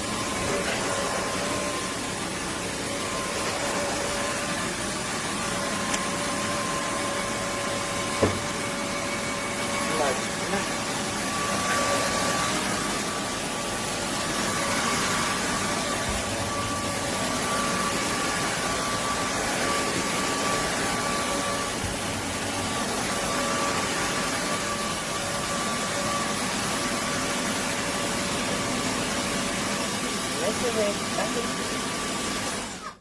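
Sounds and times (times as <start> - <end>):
vacuum mop running: 0.0 - 33.0.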